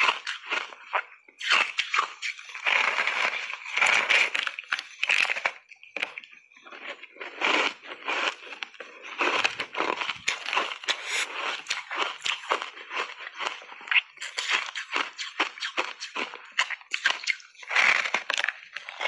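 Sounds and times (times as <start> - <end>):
ice being bitten and chewed: 0.0 - 19.0.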